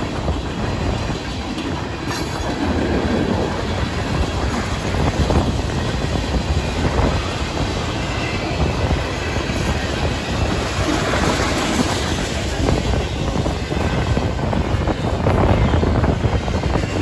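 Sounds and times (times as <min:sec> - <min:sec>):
train wheels rumbling on rail: 0:00.0 - 0:17.0
wind buffeting microphone: 0:00.0 - 0:17.0.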